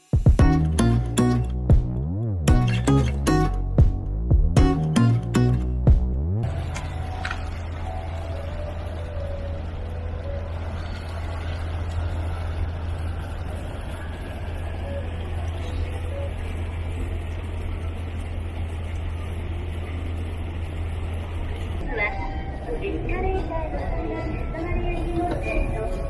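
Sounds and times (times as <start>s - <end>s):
vehicle low drone: 0.4s - 26.0s.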